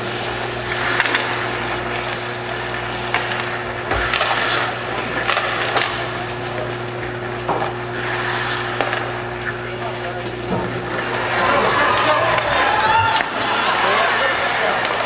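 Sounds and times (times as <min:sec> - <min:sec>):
steady low hum: 0:00.0 - 0:14.6
skate blades scraping ice: 0:00.0 - 0:15.0
sticks and puck clacking: 0:00.7 - 0:15.0.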